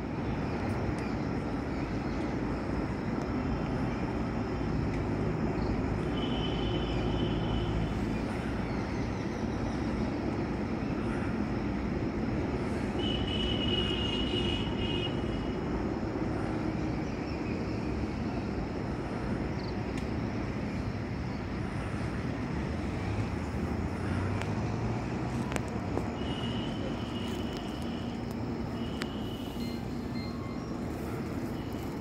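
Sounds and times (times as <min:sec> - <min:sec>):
distant traffic rumble and hiss: 0:00.0 - 0:32.0.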